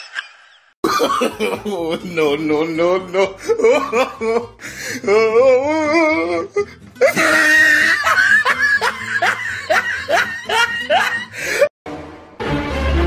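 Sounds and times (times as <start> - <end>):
person laughing loudly: 0.0 - 11.7
background music: 0.8 - 13.0.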